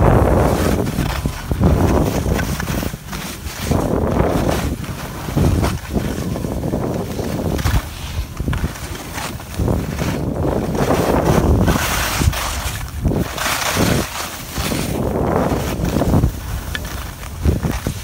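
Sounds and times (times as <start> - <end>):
ski edges scraping hard snow: 0.0 - 18.0
wind rushing over microphone: 0.0 - 18.0.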